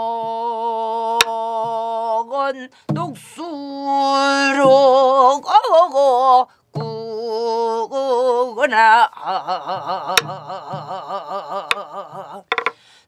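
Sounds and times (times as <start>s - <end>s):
woman singing folk song: 0.0s - 13.0s.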